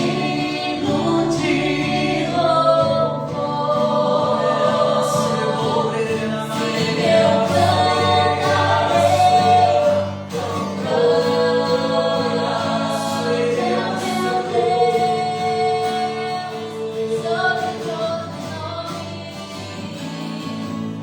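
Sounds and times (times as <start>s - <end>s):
voices singing worship song: 0.0s - 21.0s.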